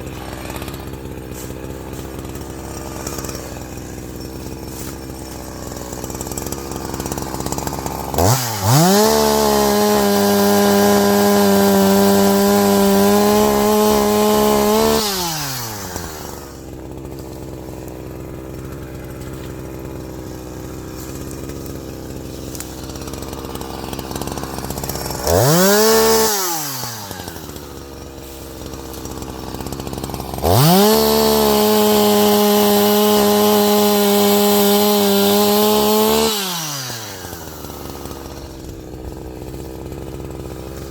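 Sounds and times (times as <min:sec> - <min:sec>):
chainsaw cutting firewood: 0:00.0 - 0:40.9.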